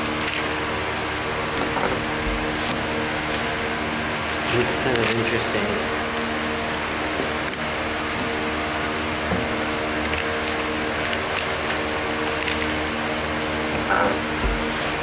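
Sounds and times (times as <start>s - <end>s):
paper rustling and tapping: 0.0s - 5.5s, 6.9s - 15.0s
steady droning hum: 0.0s - 15.0s.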